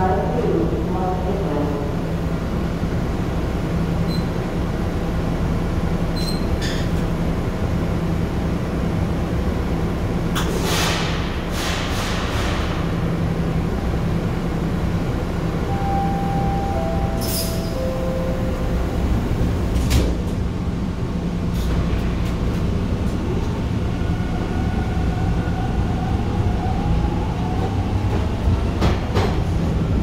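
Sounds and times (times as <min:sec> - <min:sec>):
subway wheels rumbling on track: 0:00.0 - 0:30.0.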